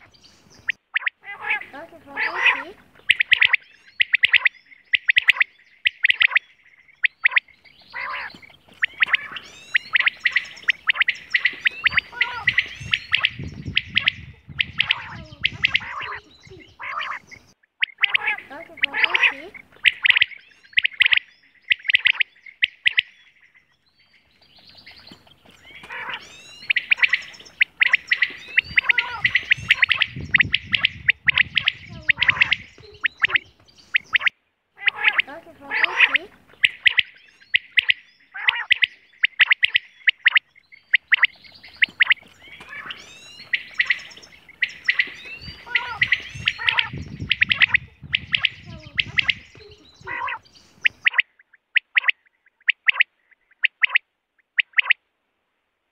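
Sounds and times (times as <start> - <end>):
quail calling: 0.0 - 55.0.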